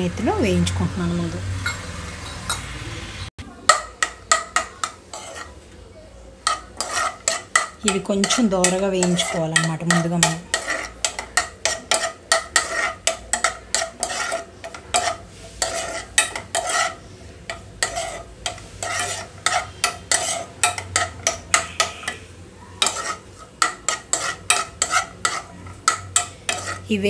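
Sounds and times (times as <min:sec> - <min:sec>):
metal spoon scraping frying pan: 0:03.7 - 0:05.6, 0:06.4 - 0:27.0
light sizzle: 0:03.8 - 0:27.0.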